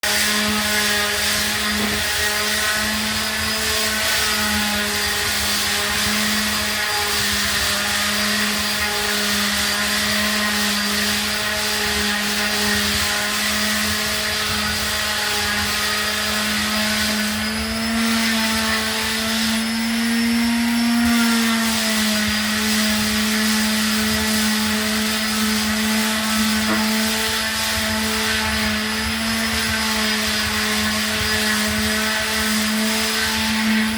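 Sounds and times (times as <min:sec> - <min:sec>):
power sander on a wall: 0:00.0 - 0:33.9.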